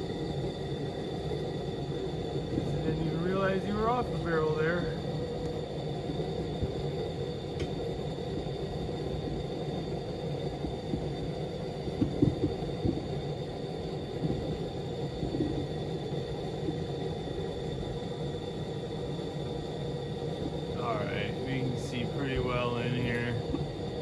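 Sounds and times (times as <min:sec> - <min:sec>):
combustion chamber burner noise: 0:00.0 - 0:24.0
faint high whine: 0:00.0 - 0:24.0.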